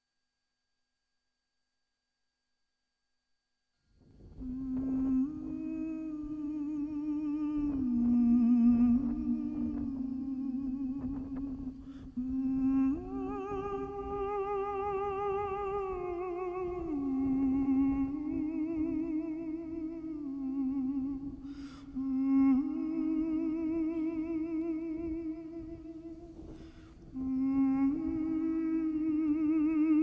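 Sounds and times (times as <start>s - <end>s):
low background rumble: 4.1s - 30.0s
voice humming long notes: 4.1s - 30.0s.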